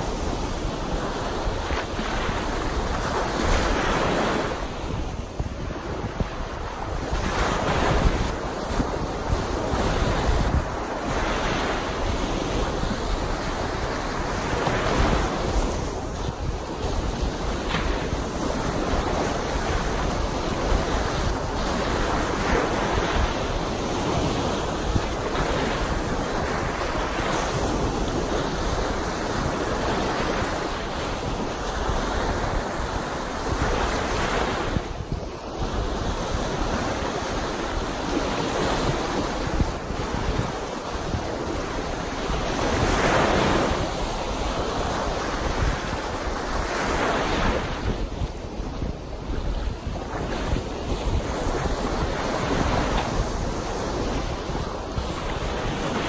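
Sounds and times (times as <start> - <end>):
lake waves breaking on shore: 0.0 - 56.0
wind buffeting microphone: 0.0 - 56.0.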